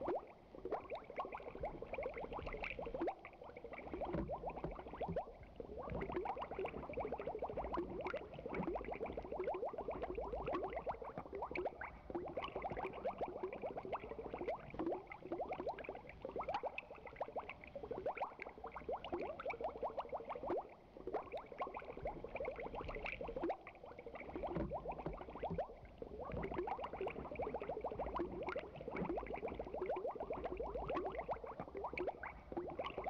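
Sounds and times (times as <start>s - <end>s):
aquarium water bubbling: 0.0s - 33.0s.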